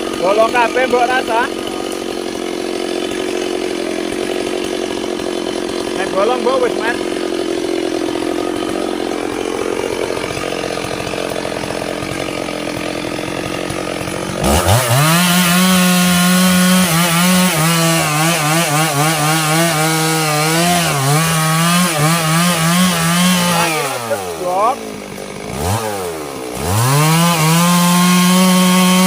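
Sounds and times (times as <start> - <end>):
chainsaw cutting into log: 0.0 - 29.0
chainsaw idling: 0.0 - 29.0.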